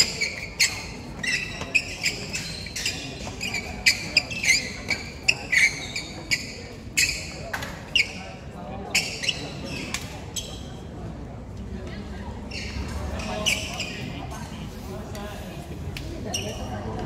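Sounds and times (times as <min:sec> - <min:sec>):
shoes squeaking on court floor: 0:00.0 - 0:10.9, 0:12.4 - 0:14.8, 0:16.2 - 0:17.0.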